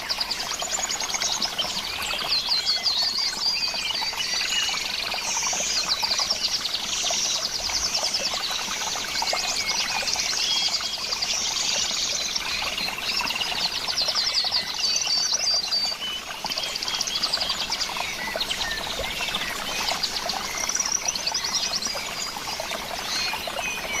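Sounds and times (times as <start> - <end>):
running water trickling: 0.0 - 24.0
small birds chirping and trilling: 0.0 - 24.0.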